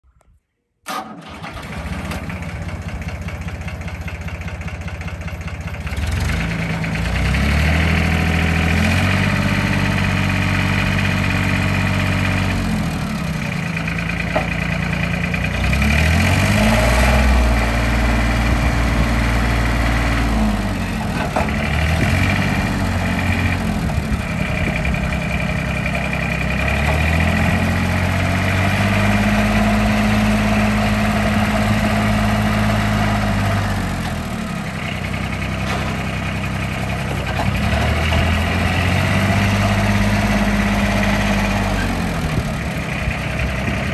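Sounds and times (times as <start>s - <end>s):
tractor diesel engine running: 0.9s - 43.9s.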